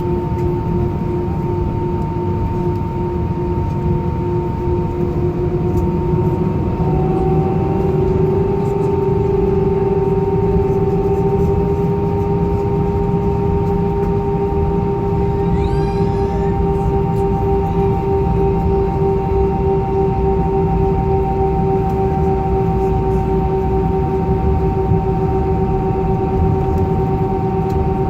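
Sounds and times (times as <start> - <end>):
jet engine whine: 0.0 - 28.0
low engine rumble: 0.1 - 28.0.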